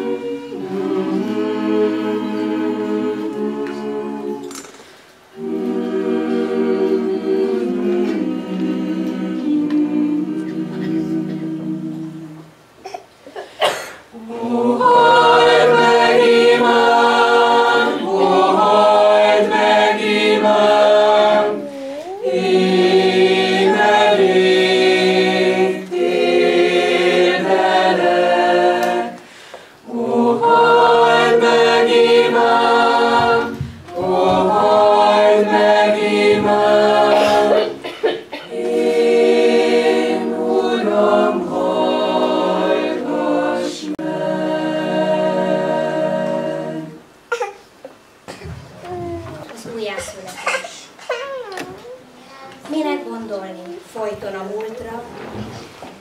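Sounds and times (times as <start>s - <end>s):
mixed choir singing a cappella: 0.0s - 12.7s, 13.6s - 47.3s.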